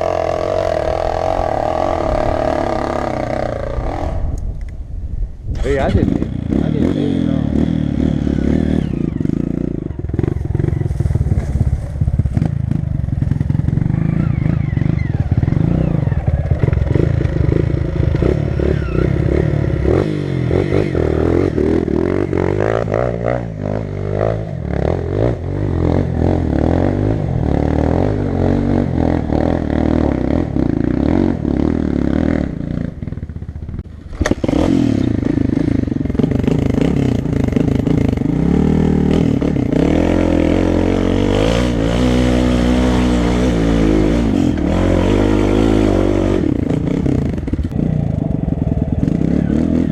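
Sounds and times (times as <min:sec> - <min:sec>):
dirt bike engine revving: 0:00.0 - 0:04.4, 0:05.6 - 0:49.9.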